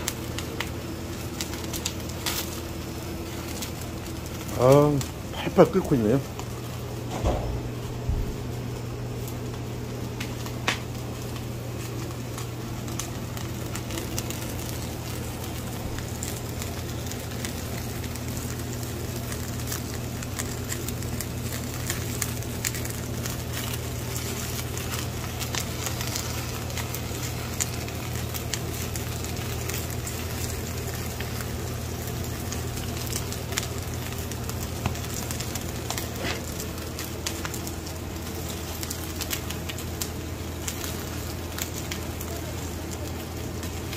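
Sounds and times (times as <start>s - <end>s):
firewood crackling and popping: 0.0s - 43.9s
steady low hum: 0.0s - 43.9s.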